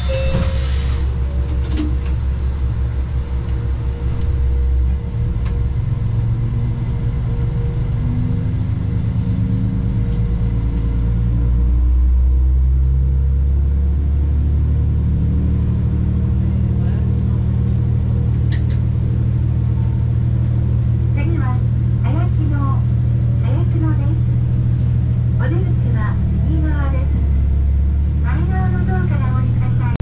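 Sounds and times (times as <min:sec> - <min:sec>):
railcar diesel engine droning: 0:00.0 - 0:30.0.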